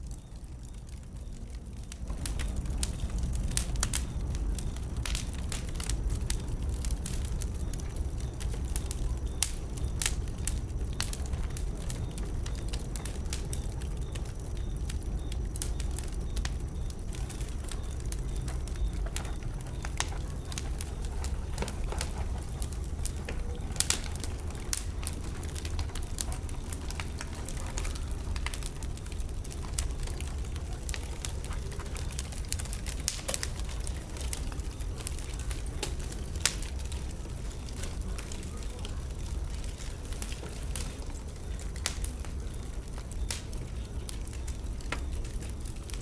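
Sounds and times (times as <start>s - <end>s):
bonfire crackling and popping: 0.0s - 46.0s
fire low rumble: 0.0s - 46.0s.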